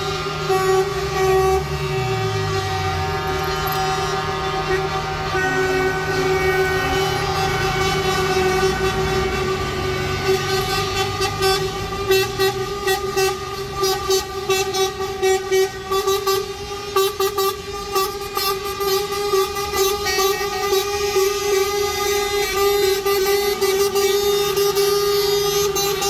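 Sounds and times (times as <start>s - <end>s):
diesel engine rumble: 0.0s - 26.0s
truck air horn held steadily: 0.0s - 26.0s
truck horns honking short blasts: 0.4s - 26.0s.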